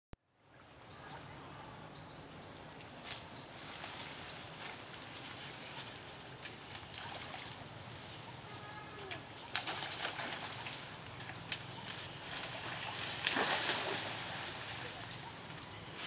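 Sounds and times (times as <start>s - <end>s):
branches and leaves rustling: 0.5s - 16.0s.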